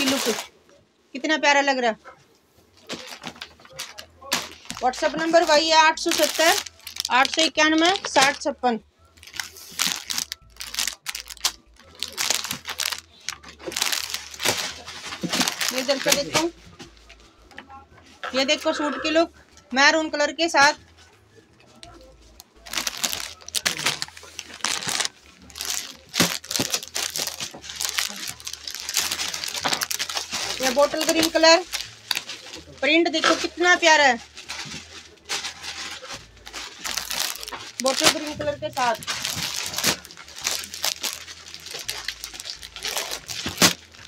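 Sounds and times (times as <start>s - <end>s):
plastic packaging crinkling: 0.0s - 0.5s, 2.8s - 17.6s, 21.6s - 44.0s.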